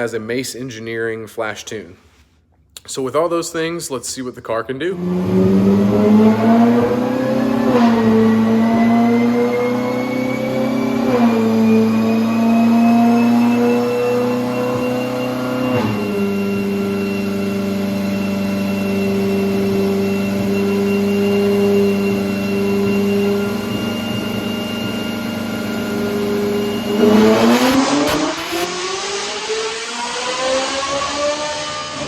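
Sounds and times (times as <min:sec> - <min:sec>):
sports car engine on a dyno: 0:04.8 - 0:32.0
loud rasping exhaust burst: 0:05.0 - 0:32.0.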